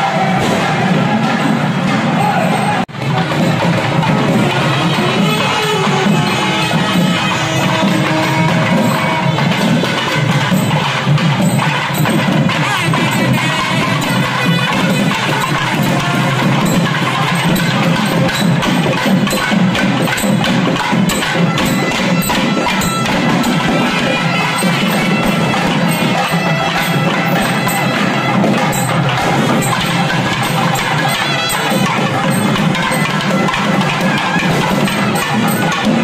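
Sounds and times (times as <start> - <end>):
fast sharp drum strokes: 0.0 - 36.0
reedy wind instrument melody: 0.0 - 36.0.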